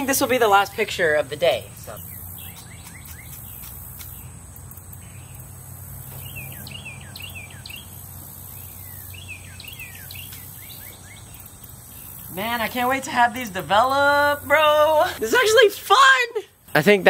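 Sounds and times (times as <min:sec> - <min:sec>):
high insect buzz: 0:00.0 - 0:15.7
birds chirping: 0:00.0 - 0:17.0.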